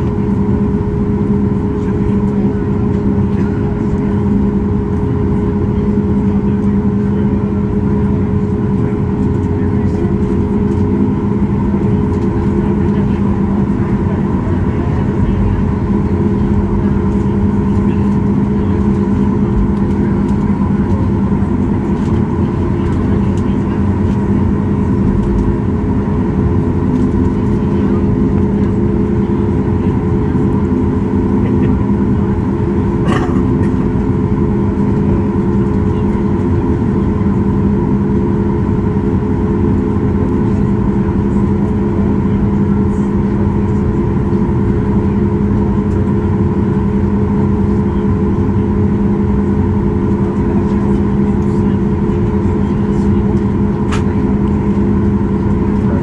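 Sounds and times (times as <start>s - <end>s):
aircraft cabin drone: 0.0s - 56.0s.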